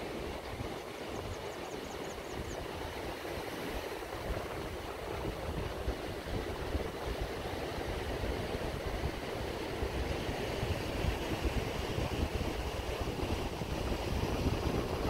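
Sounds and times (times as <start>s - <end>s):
wind buffeting microphone: 0.0s - 15.0s
surf breaking on beach: 2.8s - 15.0s.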